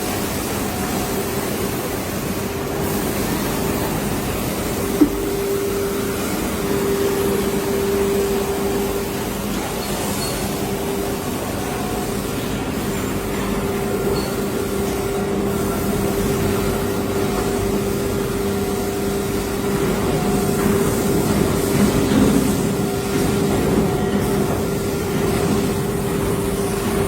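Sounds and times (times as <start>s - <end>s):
machine hum with constant tone: 0.0s - 27.0s.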